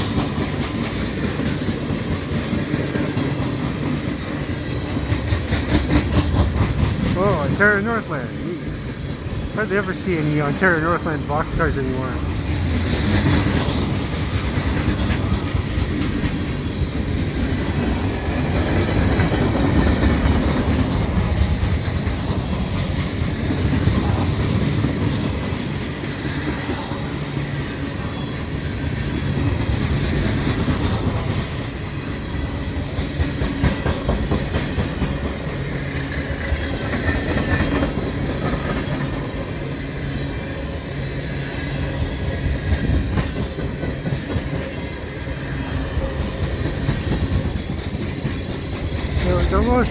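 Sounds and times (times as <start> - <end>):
steel wheels rumbling on rail: 0.0 - 49.9
wheels clickety-clack: 0.0 - 49.9.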